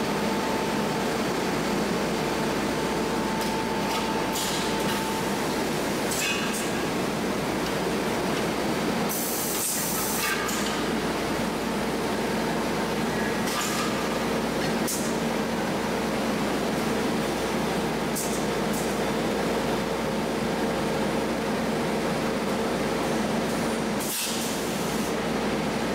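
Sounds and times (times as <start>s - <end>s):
machine drone and hum: 0.0s - 25.9s.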